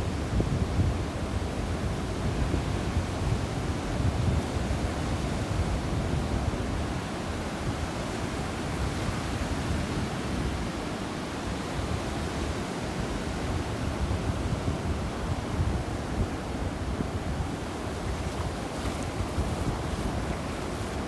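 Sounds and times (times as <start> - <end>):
ocean surf on beach: 0.0 - 21.0.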